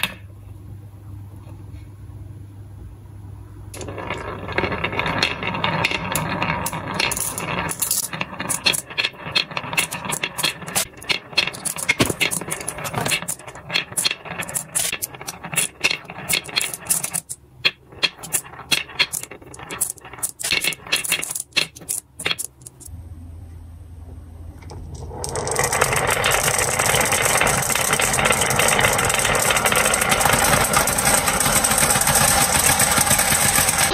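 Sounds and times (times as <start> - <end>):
marbles clicking: 3.8 - 22.9, 24.7 - 33.9
marbles rolling on wooden track: 3.8 - 22.9, 24.7 - 33.9.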